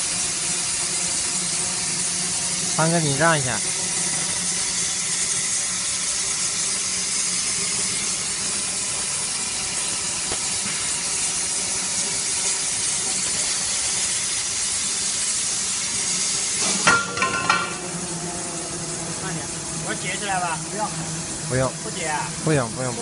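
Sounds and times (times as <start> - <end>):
plasma torch hissing: 0.0 - 23.0.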